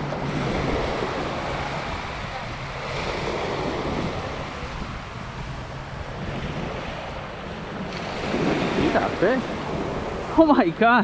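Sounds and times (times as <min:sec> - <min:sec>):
small waves washing up a beach: 0:00.0 - 0:11.0
wind buffeting microphone: 0:00.0 - 0:11.0.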